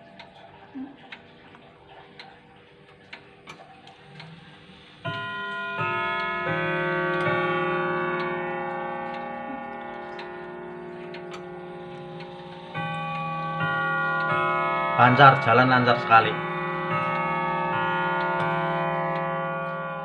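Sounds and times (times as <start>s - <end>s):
clock ticking: 0.0s - 19.8s
clock chime notes: 3.5s - 20.0s.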